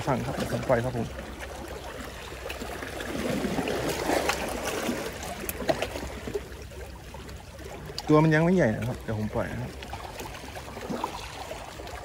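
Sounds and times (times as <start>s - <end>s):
water sloshing among rocks: 0.0s - 12.0s.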